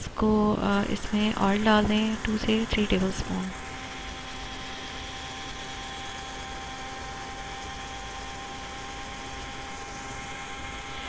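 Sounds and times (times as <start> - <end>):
electric blender motor humming: 0.6 - 11.0.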